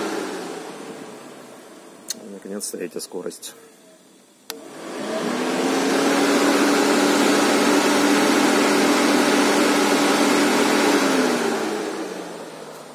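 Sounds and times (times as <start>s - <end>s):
electric cooling fan humming: 0.0s - 12.9s.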